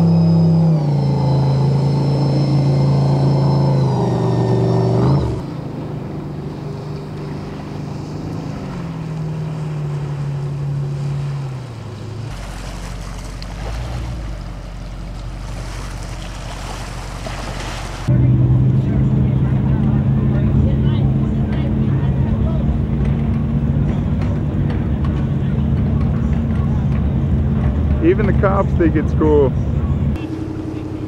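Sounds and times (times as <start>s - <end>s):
vehicle engine running: 0.0s - 31.0s
water rushing past hull: 0.0s - 31.0s.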